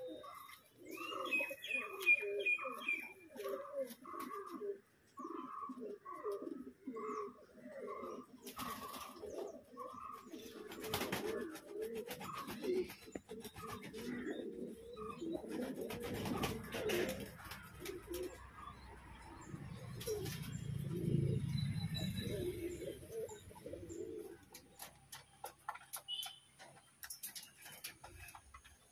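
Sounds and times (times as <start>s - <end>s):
pigeons cooing: 0.0s - 26.2s.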